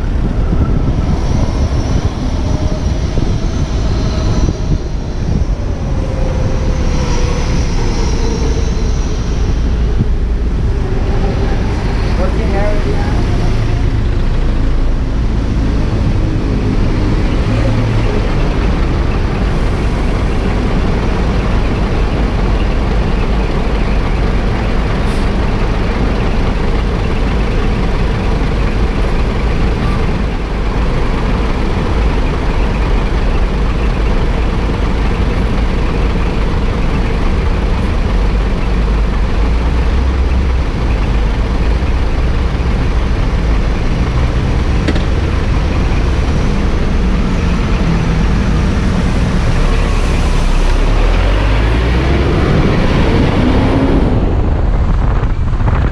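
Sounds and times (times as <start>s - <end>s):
busy road traffic: 0.0s - 55.9s
scooter low rumble: 0.0s - 55.9s.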